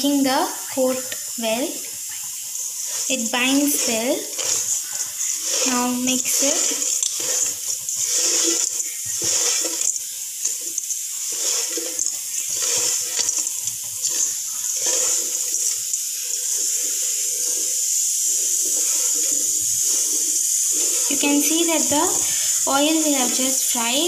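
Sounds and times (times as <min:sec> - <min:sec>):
oil sizzling in a frying pan: 0:00.0 - 0:24.0
okra rustling in a steel bowl: 0:00.9 - 0:24.0.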